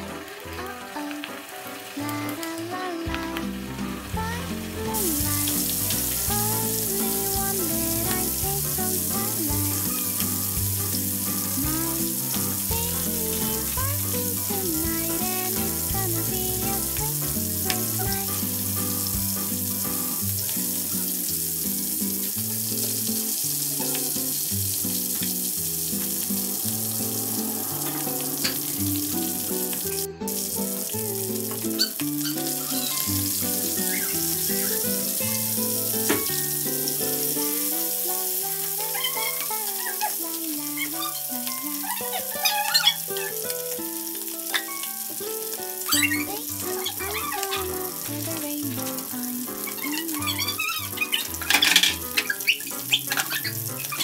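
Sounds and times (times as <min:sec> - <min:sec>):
chicken sizzling in oil: 0:00.0 - 0:54.0.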